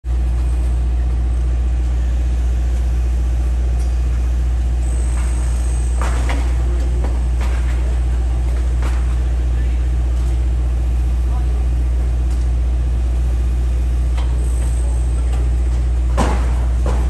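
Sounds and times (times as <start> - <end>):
heavy machinery engine humming: 0.1 - 17.0.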